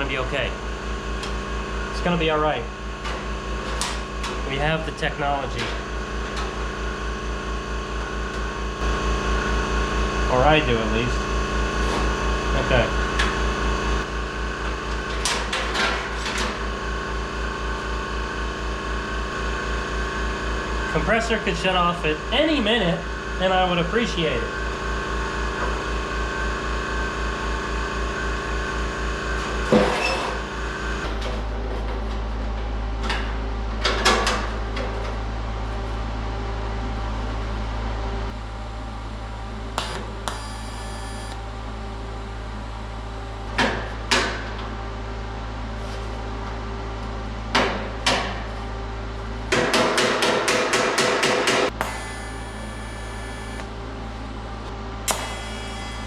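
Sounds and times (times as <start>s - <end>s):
air compressor humming: 0.0s - 56.0s.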